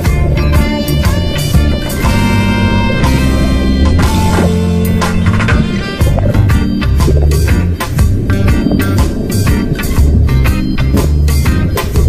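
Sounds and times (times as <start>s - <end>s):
band music: 0.0s - 12.0s
bass: 0.0s - 12.0s
drums: 0.0s - 12.0s
held chords: 0.0s - 12.0s.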